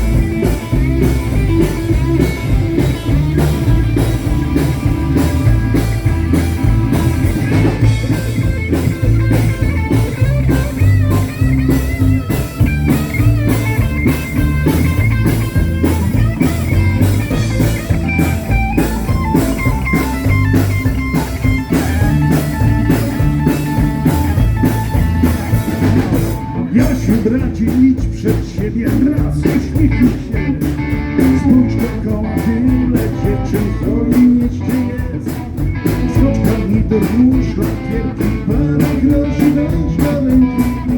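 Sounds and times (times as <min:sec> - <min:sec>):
bass guitar: 0:00.0 - 0:40.9
drum kit beat: 0:00.0 - 0:40.9
electric guitar: 0:00.0 - 0:40.9.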